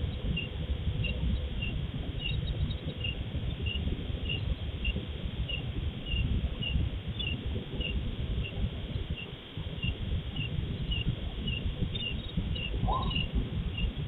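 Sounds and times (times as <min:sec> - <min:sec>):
cricket chirping: 0:00.0 - 0:08.6, 0:09.2 - 0:14.0
low rumbling noise: 0:00.0 - 0:14.0.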